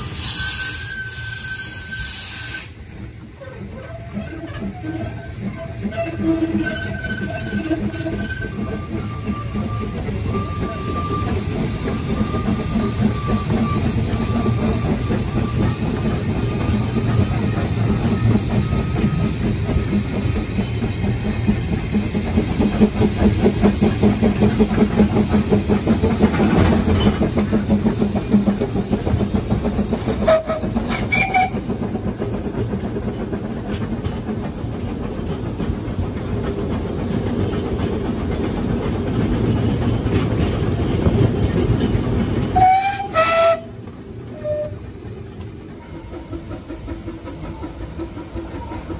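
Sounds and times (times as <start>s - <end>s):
steam locomotive clatter: 0.0s - 48.9s.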